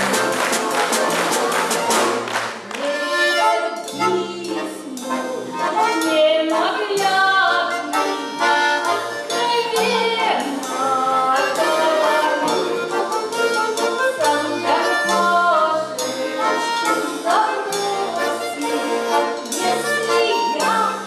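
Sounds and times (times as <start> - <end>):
button accordion playing folk tune: 0.0 - 21.0.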